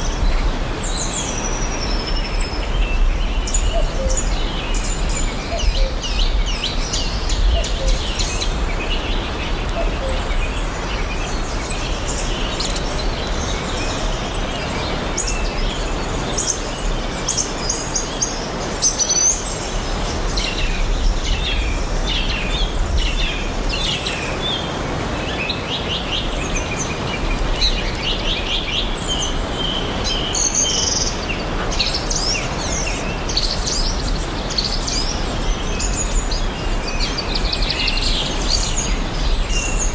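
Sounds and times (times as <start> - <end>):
birds chirping and singing: 0.4 - 39.9.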